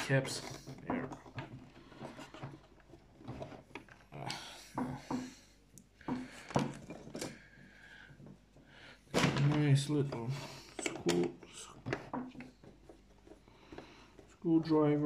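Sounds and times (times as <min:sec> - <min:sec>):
plastic parts clicking and knocking: 0:00.0 - 0:15.0.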